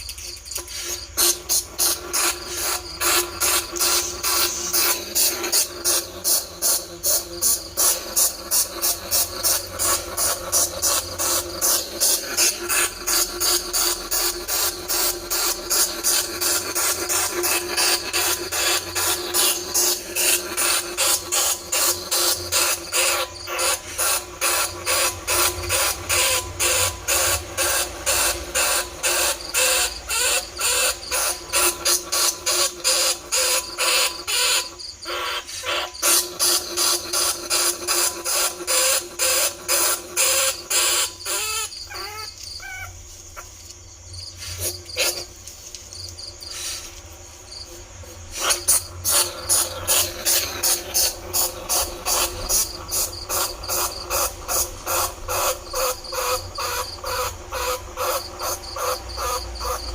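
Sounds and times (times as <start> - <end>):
raspy rat squeaks: 1.2 - 43.5, 48.4 - 59.9.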